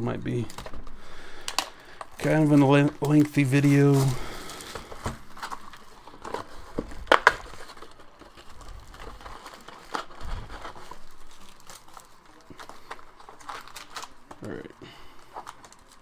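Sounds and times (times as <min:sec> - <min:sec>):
wrappers crinkling: 0:00.3 - 0:16.0.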